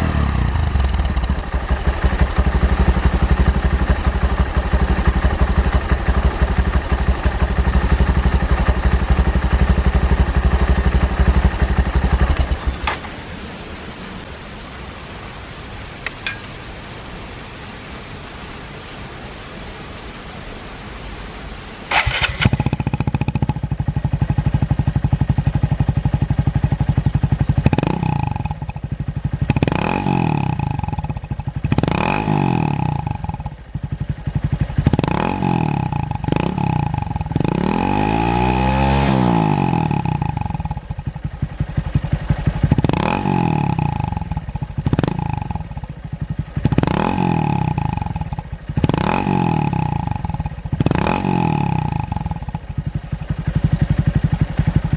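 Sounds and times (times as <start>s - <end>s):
motorcycle engine idling and revving: 0.0s - 14.1s, 21.9s - 54.9s.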